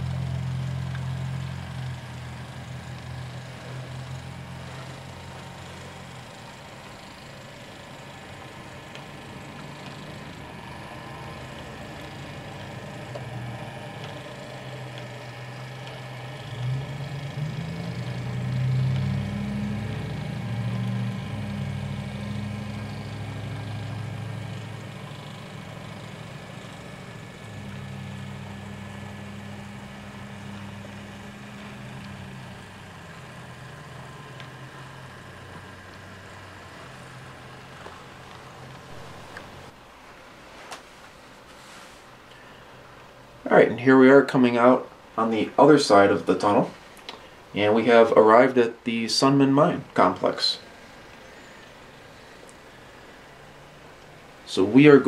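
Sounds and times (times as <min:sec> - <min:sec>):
model locomotive engine drone: 0:00.0 - 0:55.0.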